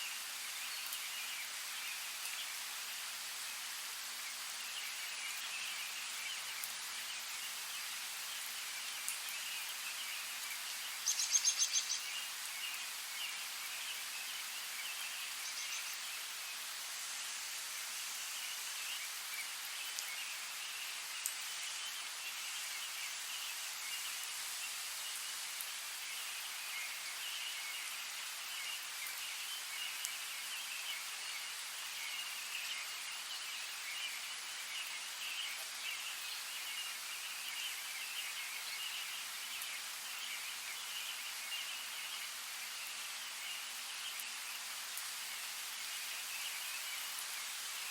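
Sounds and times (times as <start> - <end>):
light rain falling: 0.0 - 47.9.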